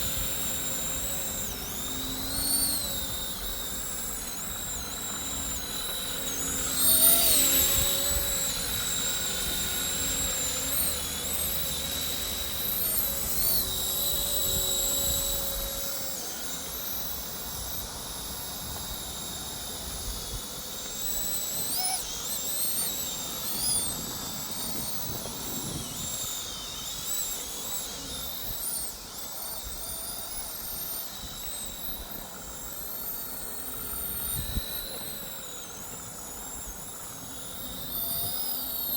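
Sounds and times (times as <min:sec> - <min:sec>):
rc helicopter motor whining: 0:00.0 - 0:38.9.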